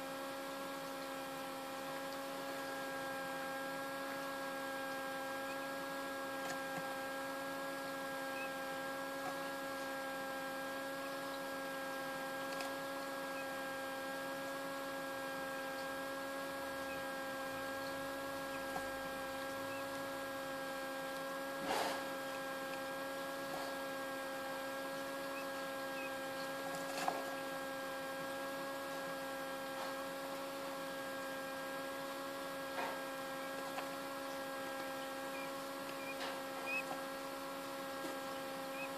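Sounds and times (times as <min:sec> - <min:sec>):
incubator fan humming: 0:00.0 - 0:38.9.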